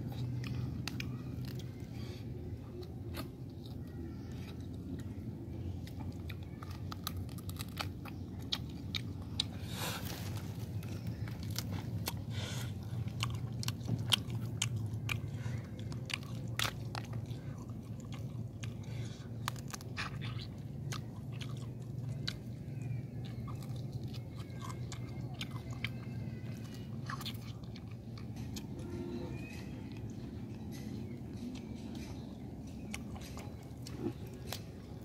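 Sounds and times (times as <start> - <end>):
chewing crunchy fried food: 0.0 - 35.0.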